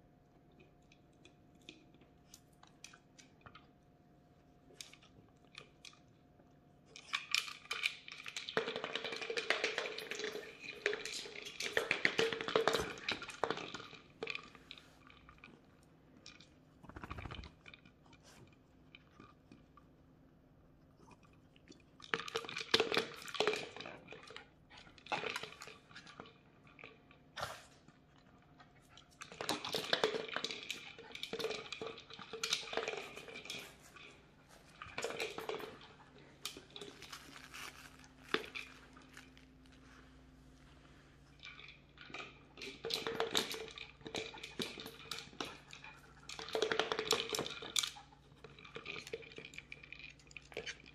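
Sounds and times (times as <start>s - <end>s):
dogs crunching dry treats: 0.6s - 20.0s, 21.0s - 50.9s.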